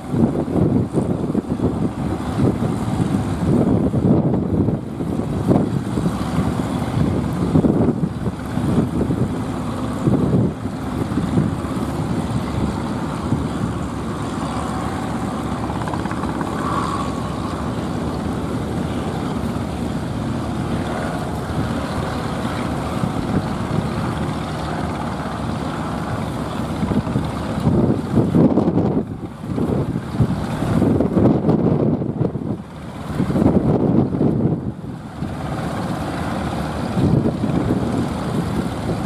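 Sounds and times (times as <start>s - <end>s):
steady motor drone: 0.0s - 39.0s
wind buffeting microphone: 0.0s - 39.0s.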